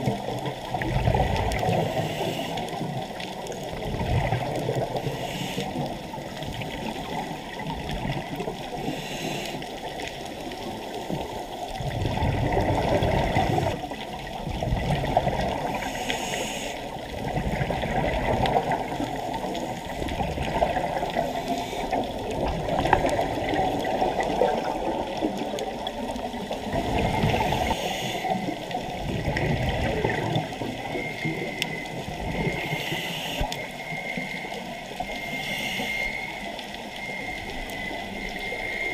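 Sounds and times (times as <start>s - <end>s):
scuba bubbles gurgling: 0.0s - 38.9s
underwater rushing: 0.0s - 38.9s.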